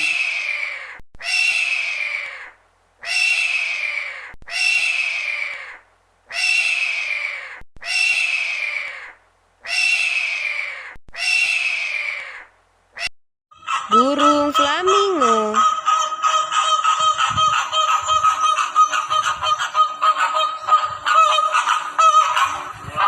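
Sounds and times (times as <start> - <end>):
eagle screaming: 0.0 - 12.5, 13.6 - 23.0.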